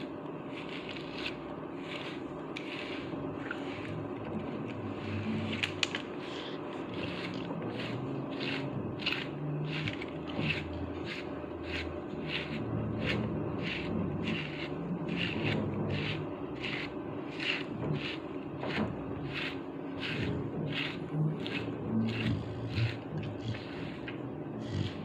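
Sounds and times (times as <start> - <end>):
brush scraping through fur: 0.0 - 5.8, 6.7 - 25.0.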